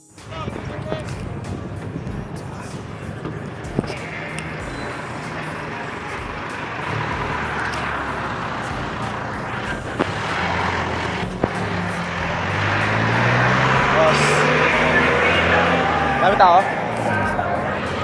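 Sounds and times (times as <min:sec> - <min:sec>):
road traffic rumble: 0:00.0 - 0:18.0
vehicle engine approaching: 0:00.0 - 0:18.0.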